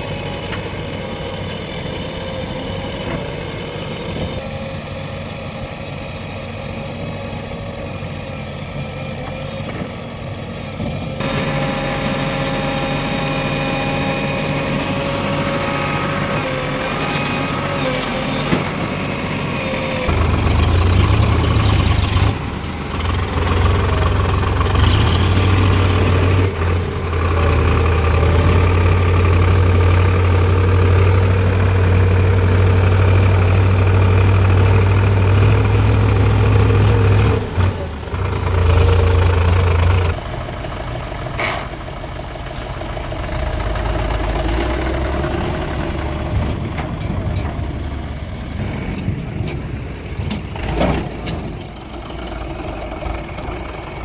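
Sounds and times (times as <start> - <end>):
diesel engines droning: 0.0 - 54.0.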